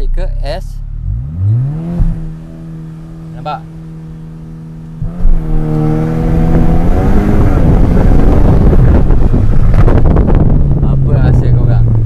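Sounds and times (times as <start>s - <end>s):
car engine accelerating: 0.0s - 12.0s
road and wind rumble: 0.0s - 12.0s.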